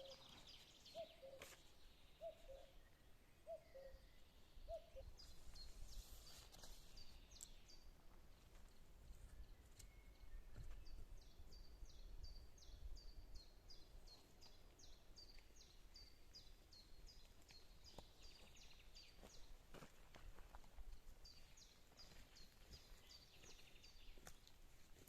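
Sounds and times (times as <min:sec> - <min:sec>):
songbird singing: 0:00.0 - 0:19.8, 0:20.8 - 0:24.5.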